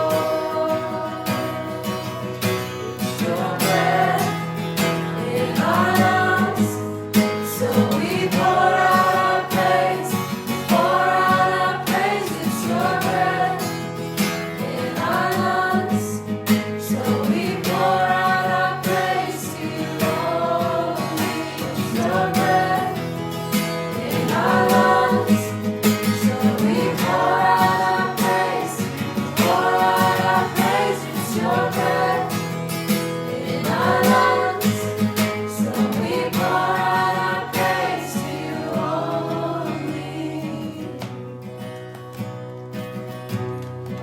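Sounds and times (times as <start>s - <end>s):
voices singing together: 0.0s - 41.4s
guitar accompaniment: 0.0s - 44.0s.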